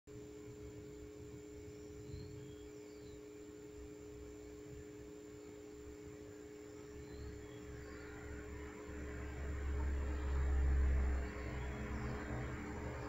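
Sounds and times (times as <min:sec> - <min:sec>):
low two-tone hum: 0:00.1 - 0:13.0.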